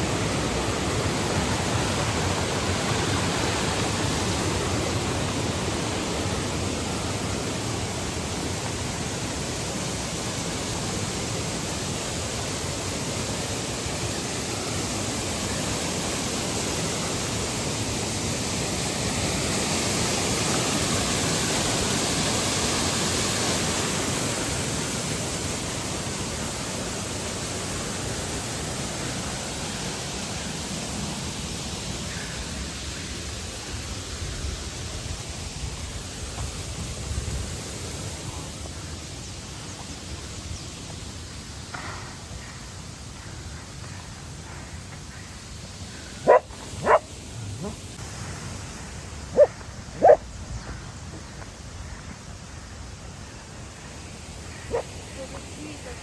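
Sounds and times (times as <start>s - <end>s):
waterfall rushing: 0.0s - 39.8s, 45.0s - 50.3s, 52.6s - 56.0s.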